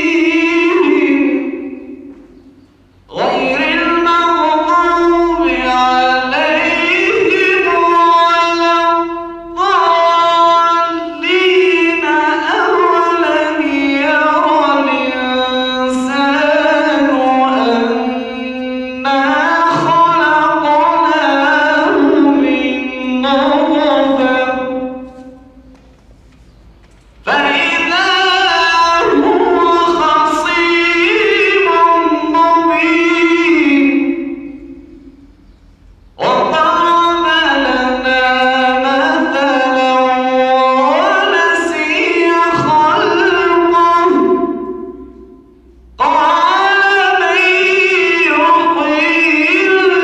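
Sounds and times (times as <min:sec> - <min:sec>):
man reciting melodically: 0:00.0 - 0:50.0.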